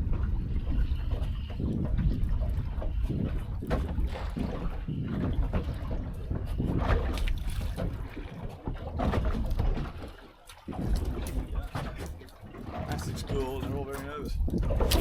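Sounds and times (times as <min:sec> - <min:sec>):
water splashes and slaps: 0:00.0 - 0:15.0
wind buffeting microphone: 0:00.0 - 0:15.0.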